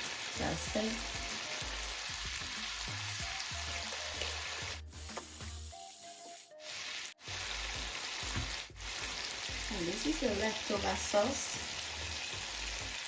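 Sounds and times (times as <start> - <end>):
background music: 0.0 - 13.0
chicken sizzling in frying pan: 0.0 - 13.0.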